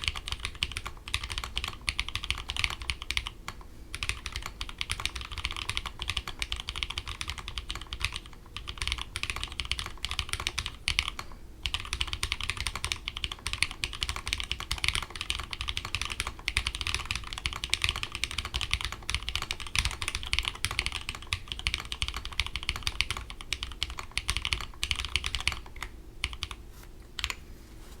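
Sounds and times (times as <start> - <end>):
mechanical keyboard typing clacks: 0.0 - 3.3, 4.0 - 26.6.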